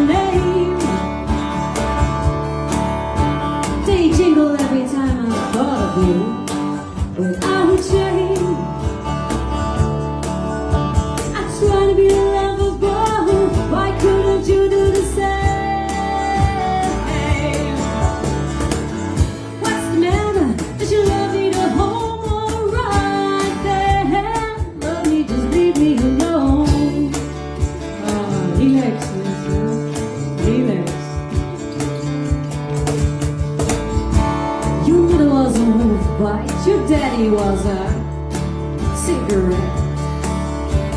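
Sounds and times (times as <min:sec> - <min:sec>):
instrumental band music: 0:00.0 - 0:40.9.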